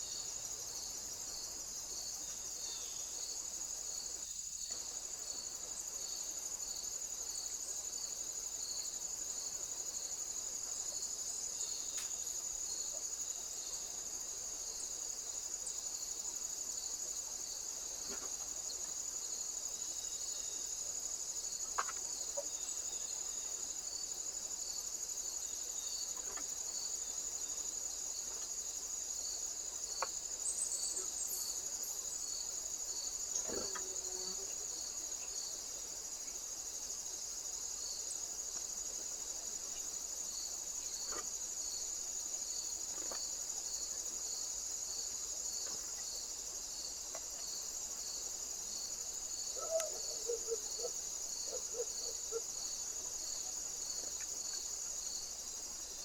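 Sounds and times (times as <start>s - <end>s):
crickets trilling: 0.0s - 56.0s
pulsing cricket chirp: 0.0s - 56.0s.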